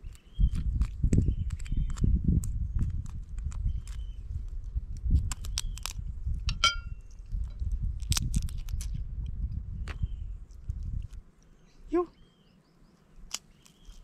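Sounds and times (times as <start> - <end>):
crab shell cracking and chewing: 0.0 - 11.6, 13.2 - 14.0.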